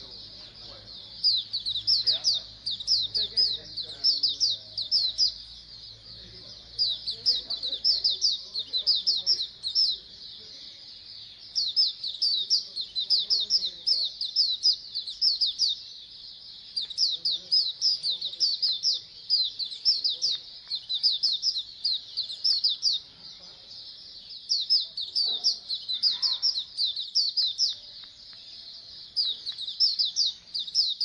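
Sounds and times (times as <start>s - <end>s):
birds chirping rapid high notes: 0.0s - 31.0s.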